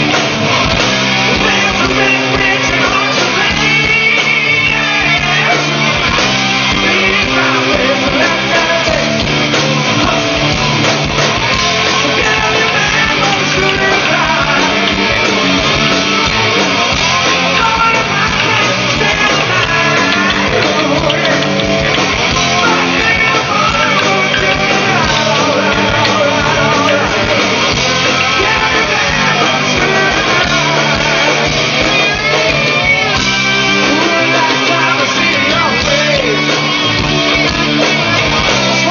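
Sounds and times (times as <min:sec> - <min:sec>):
drums: 0:00.0 - 0:38.9
electric guitars: 0:00.0 - 0:38.9
person singing: 0:01.2 - 0:10.6, 0:11.7 - 0:16.2, 0:17.2 - 0:38.9.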